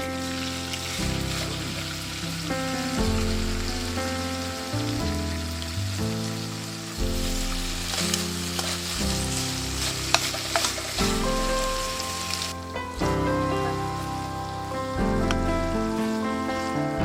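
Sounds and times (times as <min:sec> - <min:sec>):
food sizzling in a frying pan: 0:00.0 - 0:17.0
slow sustained chords music: 0:00.0 - 0:17.0.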